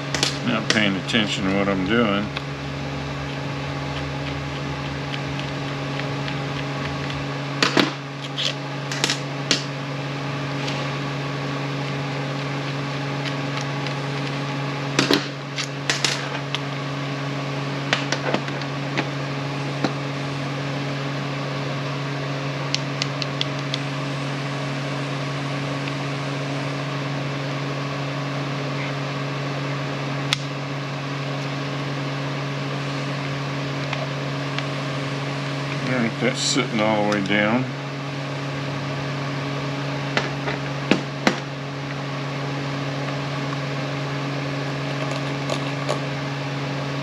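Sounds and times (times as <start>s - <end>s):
steady mechanical hum: 0.0s - 47.0s.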